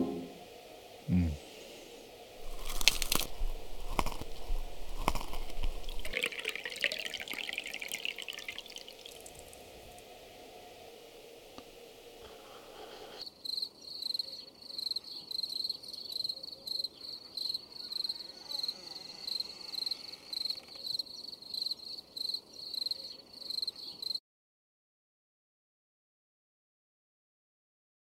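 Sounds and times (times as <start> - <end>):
crickets chirping: 0.5 - 24.2.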